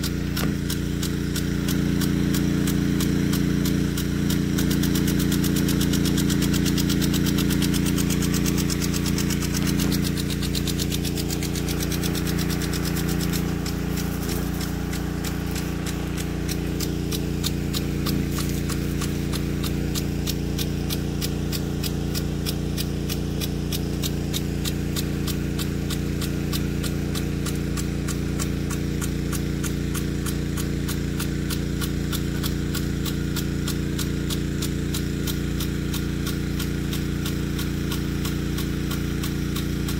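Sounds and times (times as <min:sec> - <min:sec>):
impact sprinkler arm ticking: 0:00.0 - 0:39.9
pump humming: 0:00.0 - 0:39.9
water spray hissing: 0:00.0 - 0:39.9.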